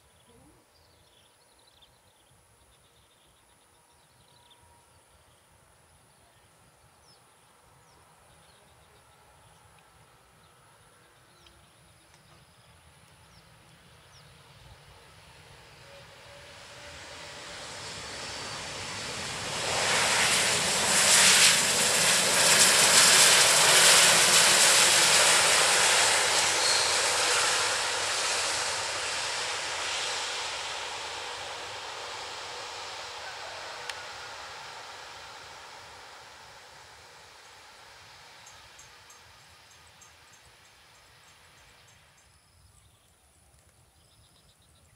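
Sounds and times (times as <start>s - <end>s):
jet engine noise: 5.1s - 42.4s.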